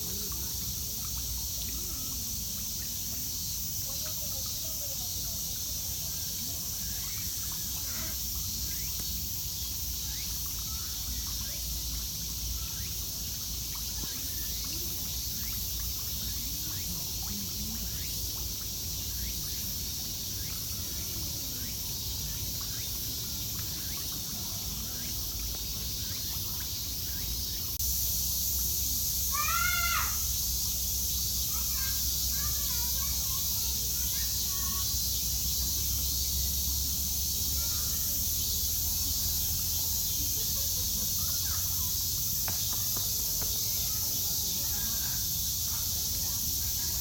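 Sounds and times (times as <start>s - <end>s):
faint chirps: 0.0s - 47.0s
high-pitched insect drone: 0.0s - 47.0s.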